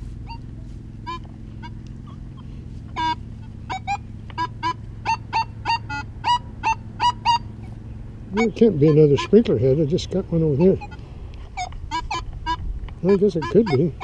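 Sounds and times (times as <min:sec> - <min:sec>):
geese honking: 0:00.0 - 0:14.0.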